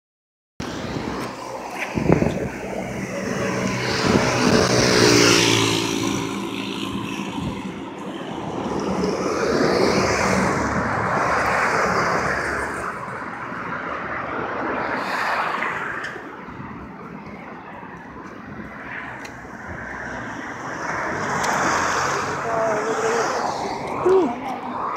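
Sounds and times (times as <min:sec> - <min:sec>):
traffic noise: 0:00.6 - 0:24.9.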